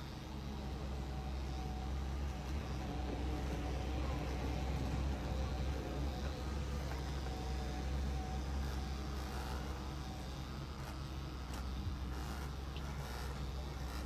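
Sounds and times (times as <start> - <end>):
electric pet clippers running: 0.0 - 14.0.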